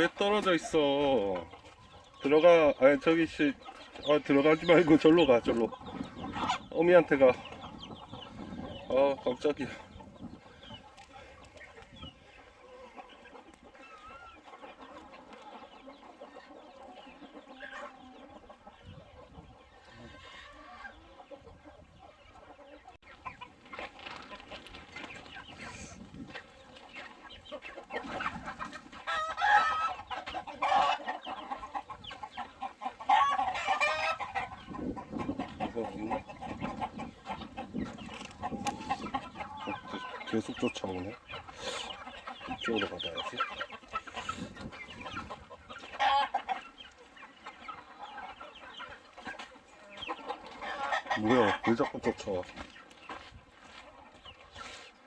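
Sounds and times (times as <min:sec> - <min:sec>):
chickens clucking: 0:00.0 - 0:55.0
drawn-out chicken calls: 0:00.0 - 0:55.0.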